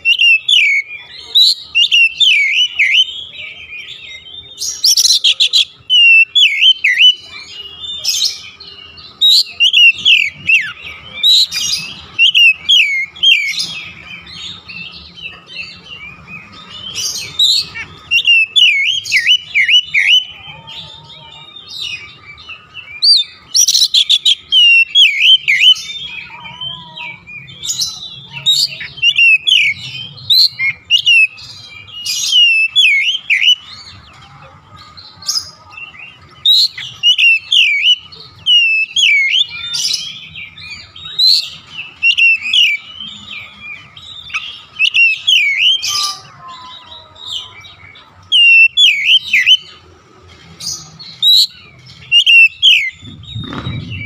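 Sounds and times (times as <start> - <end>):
bird singing whistled phrases: 0.0 - 8.4, 9.0 - 14.7, 16.4 - 20.4, 21.8 - 33.6, 36.4 - 49.8, 51.2 - 54.0
harsh scratchy bird calls: 0.0 - 54.0.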